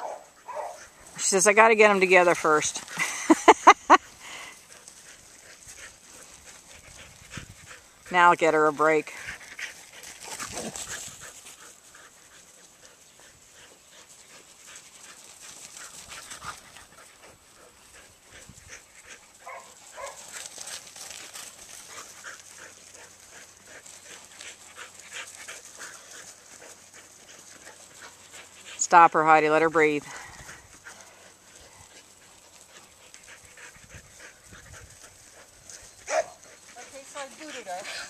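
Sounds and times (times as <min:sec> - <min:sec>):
dog panting: 0:01.9 - 0:08.3, 0:08.9 - 0:38.0.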